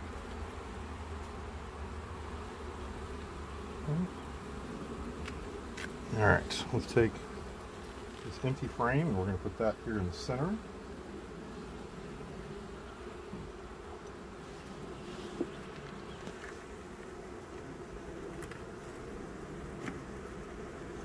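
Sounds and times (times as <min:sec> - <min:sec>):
bees humming: 0:00.0 - 0:21.0.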